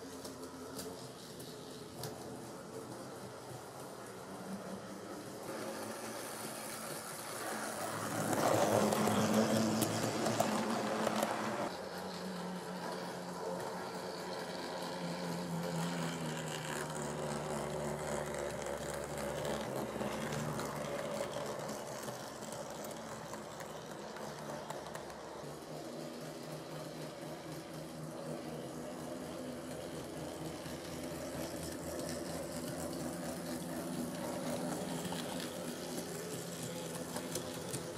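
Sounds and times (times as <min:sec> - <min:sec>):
locomotive mechanical drone: 0:00.0 - 0:37.9.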